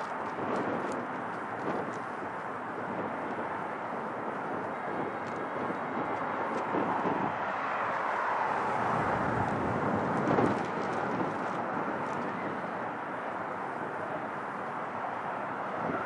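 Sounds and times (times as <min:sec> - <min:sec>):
distant aircraft rushing: 0:00.0 - 0:16.0.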